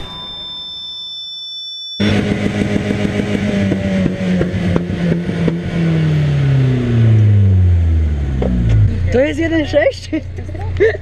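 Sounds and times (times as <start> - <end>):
car engine revving: 2.0 - 10.9.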